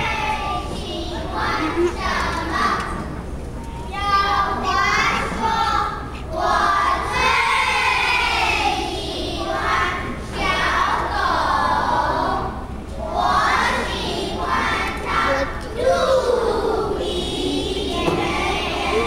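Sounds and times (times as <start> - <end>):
children reciting in unison: 0.0 - 3.2, 3.9 - 19.0.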